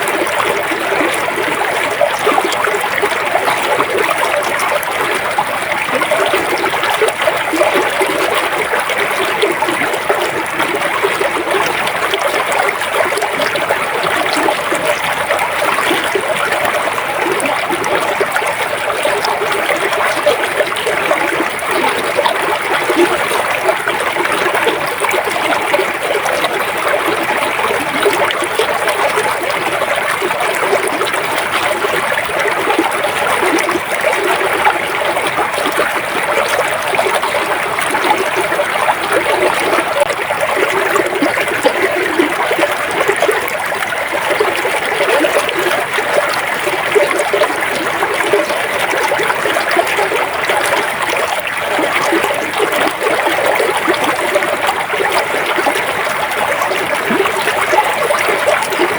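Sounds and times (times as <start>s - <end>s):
river water flowing: 0.0s - 58.9s.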